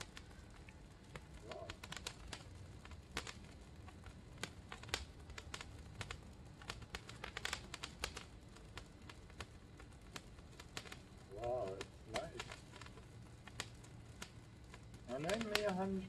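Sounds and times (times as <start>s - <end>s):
sparkler crackling and popping: 0.0s - 16.0s.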